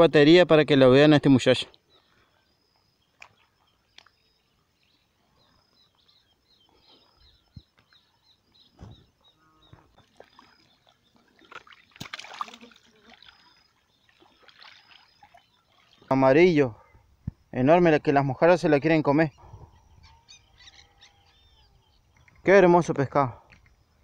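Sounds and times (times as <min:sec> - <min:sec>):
bird chirping: 0:01.1 - 0:24.0.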